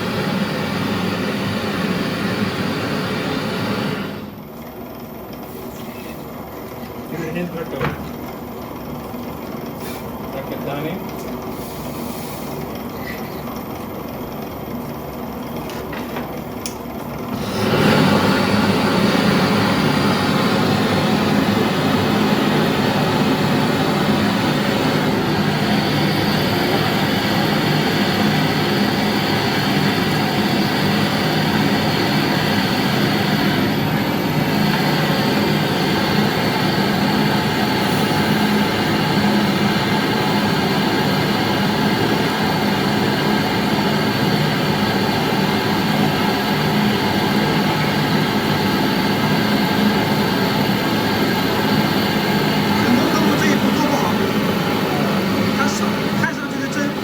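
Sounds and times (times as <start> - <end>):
gas torch burning: 0.0 - 57.0.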